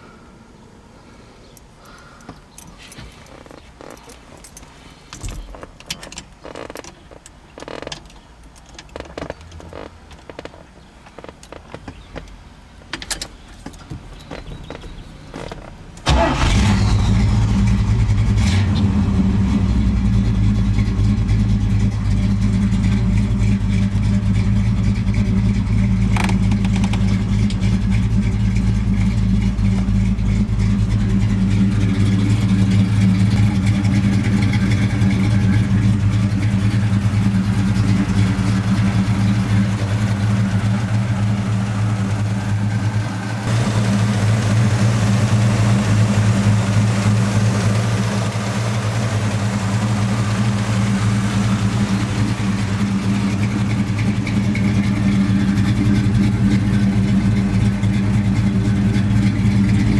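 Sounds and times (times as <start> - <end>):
car engine starting and idling: 0.0 - 59.9.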